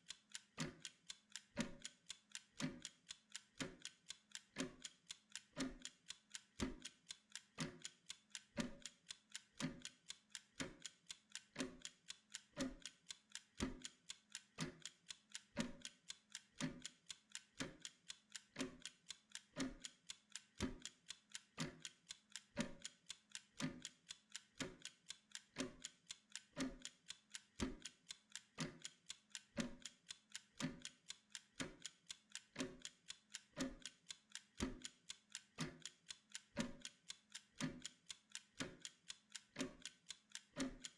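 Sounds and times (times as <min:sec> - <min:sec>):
kitchen timer ticking: 0:00.0 - 0:40.9.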